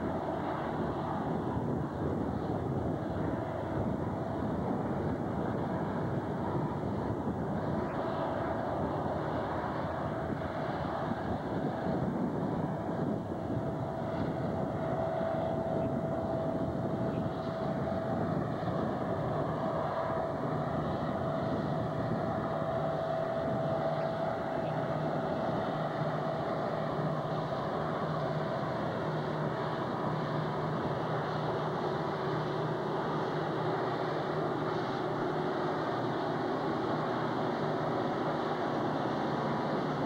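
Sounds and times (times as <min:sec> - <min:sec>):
locomotive engine drone: 0:00.0 - 0:40.0
rail cars rumbling: 0:00.0 - 0:40.0
thin steady whine: 0:00.0 - 0:40.0.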